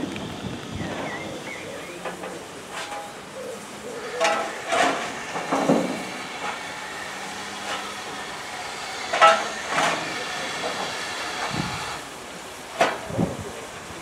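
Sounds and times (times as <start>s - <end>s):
light hiss of steam: 0.0s - 14.0s
steam locomotive drifting in: 0.0s - 14.0s.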